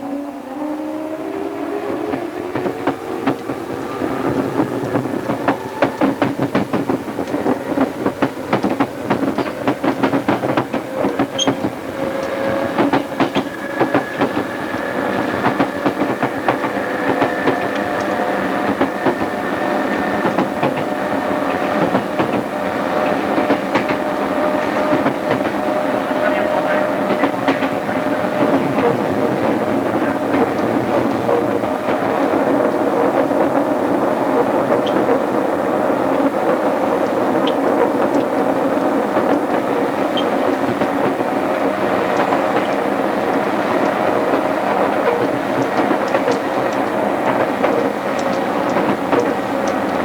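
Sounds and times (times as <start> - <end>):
electric train motor whine: 0.0 - 50.0
wheels clattering over rail joints: 1.3 - 50.0.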